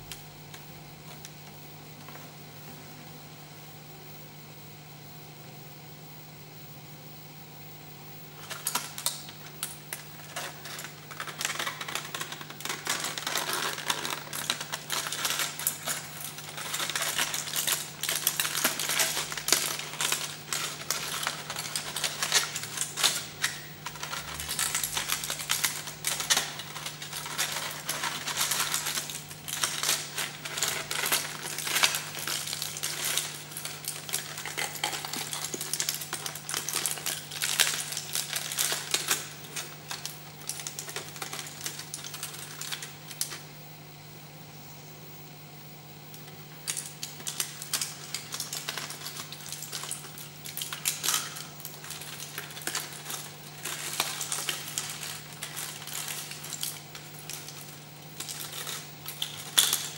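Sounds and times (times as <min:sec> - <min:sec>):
low electrical hum: 0:00.0 - 0:59.9
aluminium foil crackling: 0:08.3 - 0:43.5, 0:46.2 - 0:59.9.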